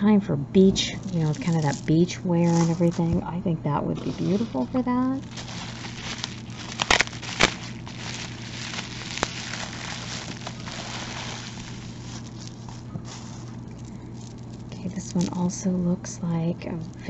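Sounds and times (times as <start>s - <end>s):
bubble wrap crinkling: 1.0s - 3.2s, 4.0s - 15.8s.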